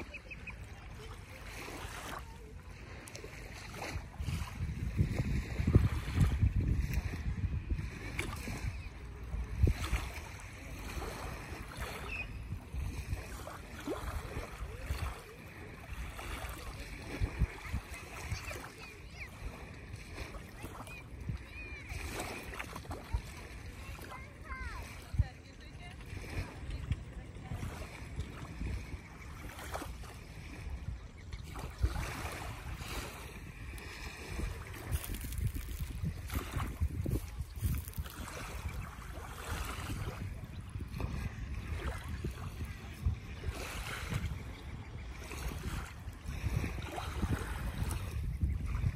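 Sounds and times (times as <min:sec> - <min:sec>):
small waves lapping shore: 0:00.0 - 0:48.9
wind buffeting microphone: 0:00.0 - 0:48.9.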